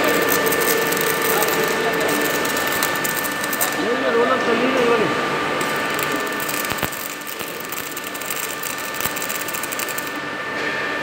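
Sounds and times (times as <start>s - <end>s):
welding arc crackling: 0.0s - 4.4s, 5.0s - 10.3s
machine hum: 0.0s - 11.0s.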